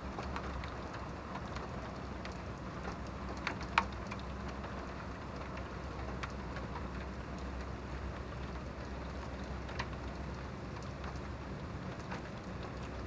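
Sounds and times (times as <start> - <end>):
raindrops tapping on a surface: 0.0 - 13.0
steady rain: 0.0 - 13.0.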